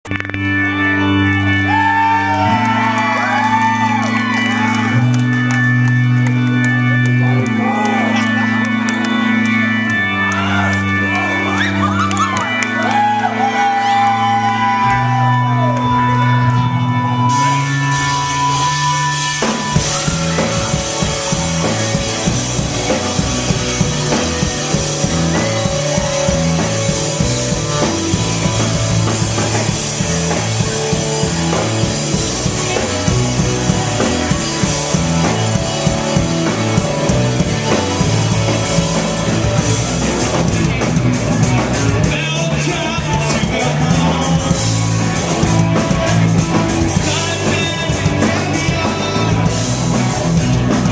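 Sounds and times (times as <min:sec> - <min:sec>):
rock band playing live: 0:00.0 - 0:50.9.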